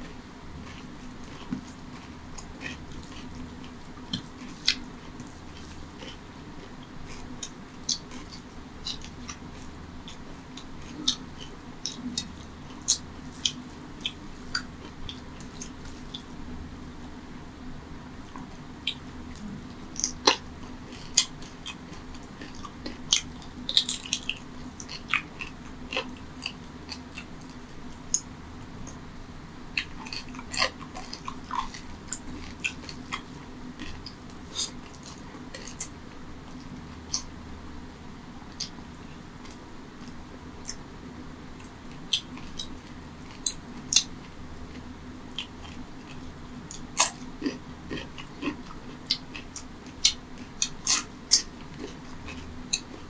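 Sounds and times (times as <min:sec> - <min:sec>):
wet chewing and mouth smacks: 0:00.6 - 0:16.4, 0:18.2 - 0:29.0, 0:29.7 - 0:37.3, 0:38.5 - 0:38.8, 0:41.6 - 0:44.1, 0:44.7 - 0:53.0.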